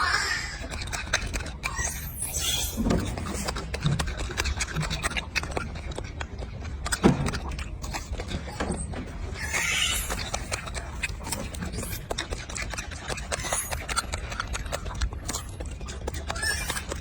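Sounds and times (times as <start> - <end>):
monkey crunching carrot: 0.0 - 17.0.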